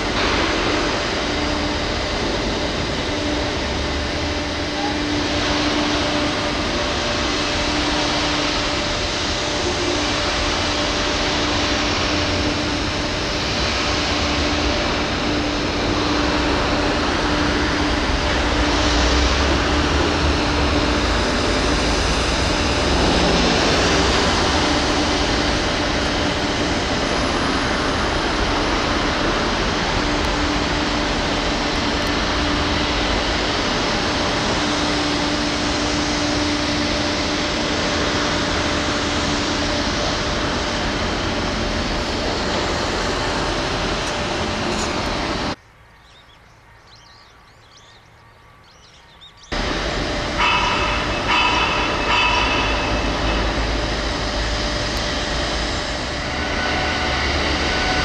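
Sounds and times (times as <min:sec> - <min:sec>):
steady rushing noise: 0:00.0 - 0:45.6, 0:49.5 - 0:58.0.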